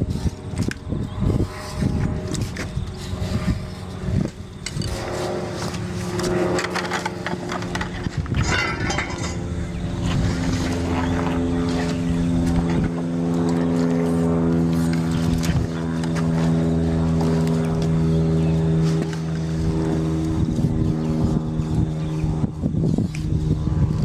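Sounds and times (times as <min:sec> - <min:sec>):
motor running steadily: 0:00.0 - 0:24.0.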